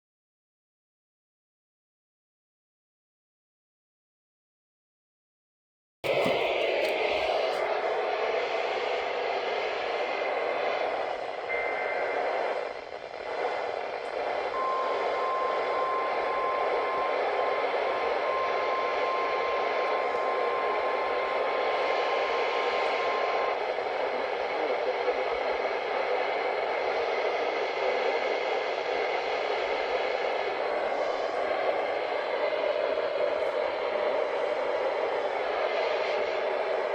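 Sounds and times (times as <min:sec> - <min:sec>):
radio static hiss: 0:06.1 - 0:36.9.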